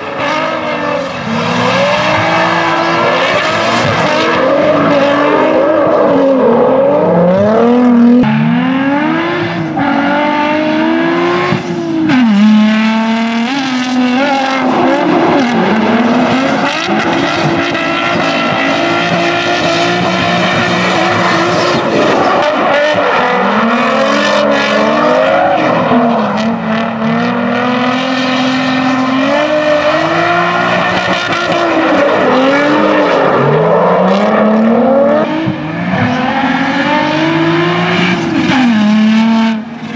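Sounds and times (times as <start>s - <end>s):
car engines revving hard: 0.0s - 39.9s.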